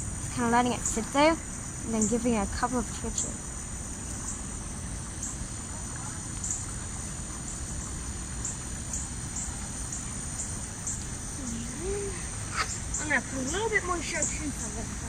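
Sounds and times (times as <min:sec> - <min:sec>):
crickets chirping: 0:00.0 - 0:15.0
low outdoor rumble: 0:00.0 - 0:15.0.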